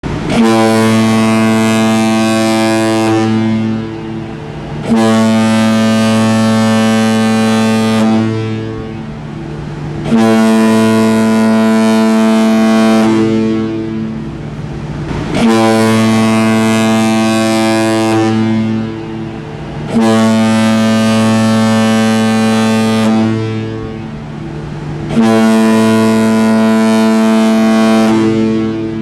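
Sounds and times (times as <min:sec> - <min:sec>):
ship's horn blasts: 0:00.0 - 0:29.0.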